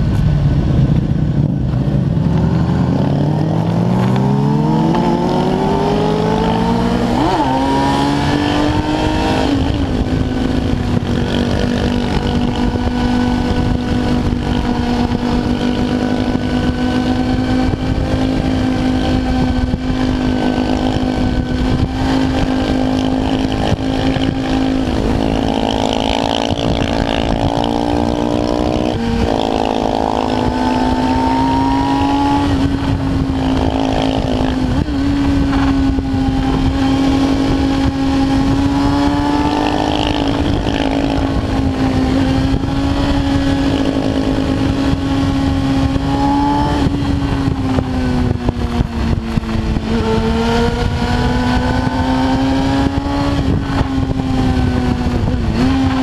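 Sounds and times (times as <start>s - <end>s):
motorcycle engine accelerating: 0.0s - 56.0s
wind rushing over microphone: 0.0s - 56.0s.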